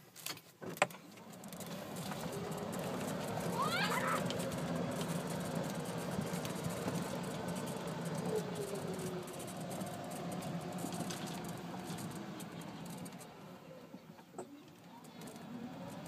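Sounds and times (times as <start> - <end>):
light rattling and clicks: 0.1 - 16.0
golf cart humming: 1.0 - 16.0.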